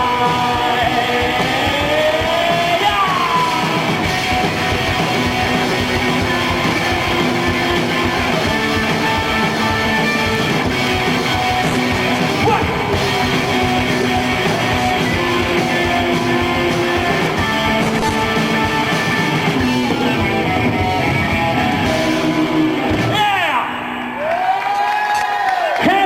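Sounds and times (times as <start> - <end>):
rock band playing live: 0.0 - 24.8
electric guitar: 0.0 - 25.9.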